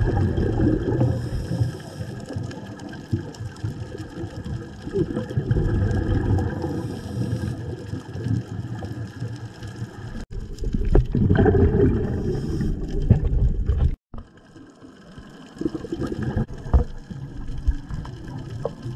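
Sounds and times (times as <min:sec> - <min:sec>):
regulator bubbling: 0:00.0 - 0:18.9
underwater rumble: 0:00.0 - 0:18.9.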